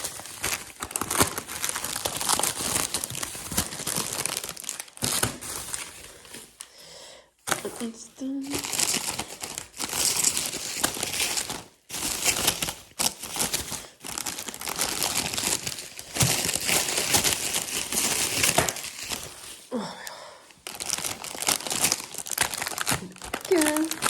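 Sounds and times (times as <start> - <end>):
packaging crinkling: 0.0 - 6.7, 7.4 - 19.7, 20.5 - 24.0.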